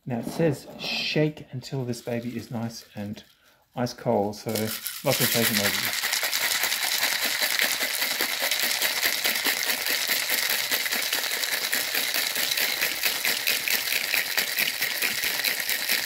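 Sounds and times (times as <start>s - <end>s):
ice rattling in cocktail shaker: 1.6s - 3.3s, 4.4s - 16.0s.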